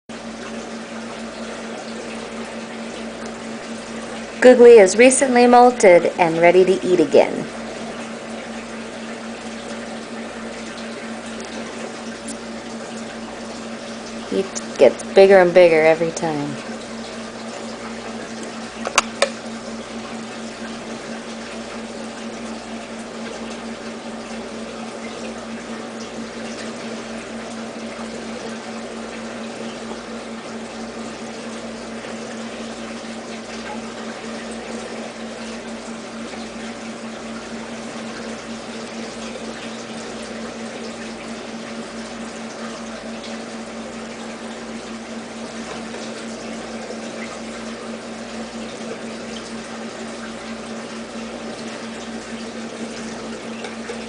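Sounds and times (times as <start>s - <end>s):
water splashing and trickling: 0.2s - 54.0s.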